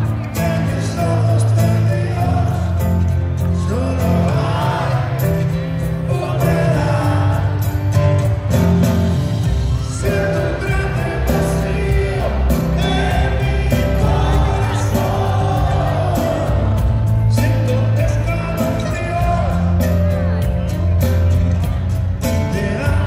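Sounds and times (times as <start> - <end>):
lead singer singing: 0.0 - 8.8, 9.6 - 23.0
deep bass line: 0.0 - 23.0
drums: 0.0 - 23.0.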